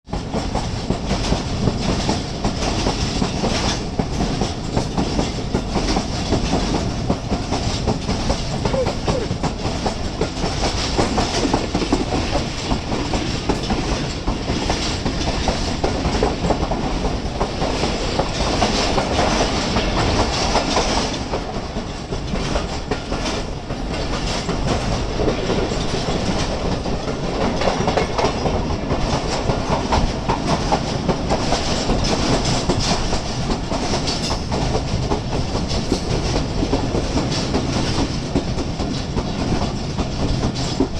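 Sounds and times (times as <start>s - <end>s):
train wheels clattering over rail joints: 0.1s - 40.9s.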